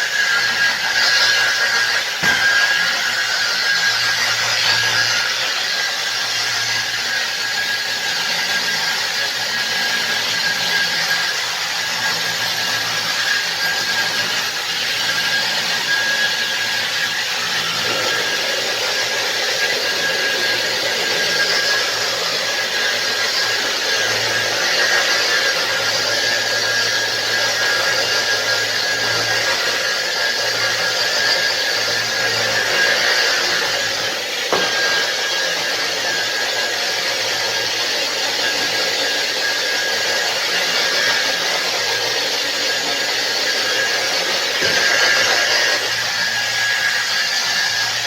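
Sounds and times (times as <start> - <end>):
polishing machine grinding marble: 0.0 - 48.0.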